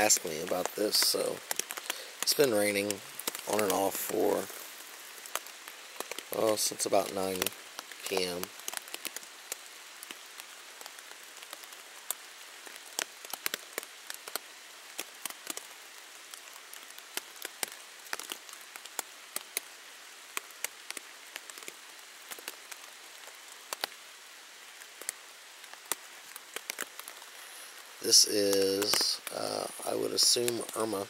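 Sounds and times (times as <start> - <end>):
rain on a tent: 0.0 - 31.0.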